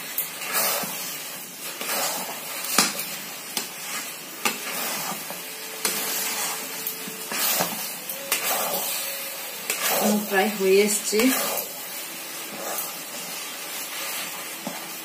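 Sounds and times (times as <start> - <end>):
spatula scraping sizzling food: 0.0 - 15.0.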